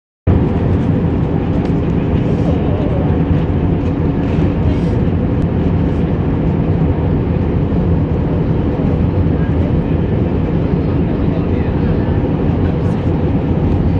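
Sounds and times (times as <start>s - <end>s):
airplane cabin jet engine noise: 0.3s - 13.9s.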